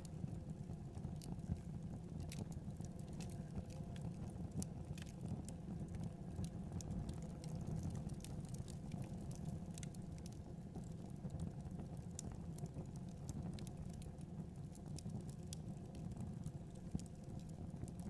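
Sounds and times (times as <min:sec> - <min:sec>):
fire crackles and pops: 0:00.0 - 0:18.0
fireplace fire rumbling: 0:00.0 - 0:18.0.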